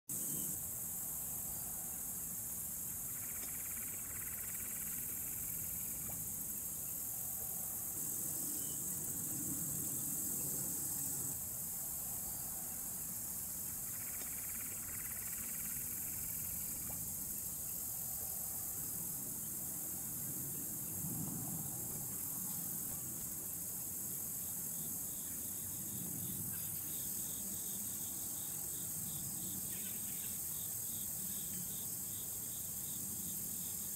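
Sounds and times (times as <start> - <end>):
insects chirring: 0.1 - 33.9.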